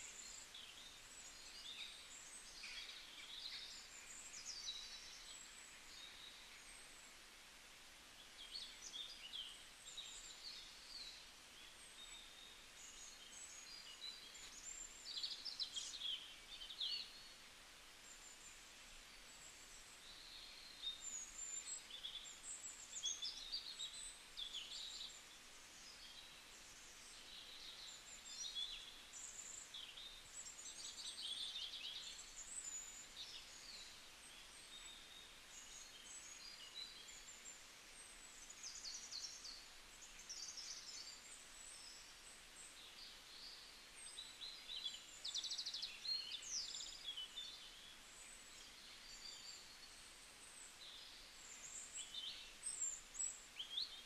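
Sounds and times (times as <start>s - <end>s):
faint birdsong chirps: 0.0s - 54.0s
low steady hiss: 0.0s - 54.0s.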